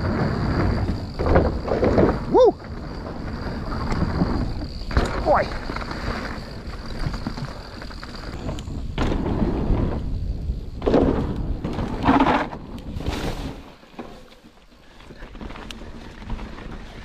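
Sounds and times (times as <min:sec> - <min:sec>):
bike rattling: 0:00.0 - 0:17.0
bike tyres rumbling on dirt: 0:00.0 - 0:17.0.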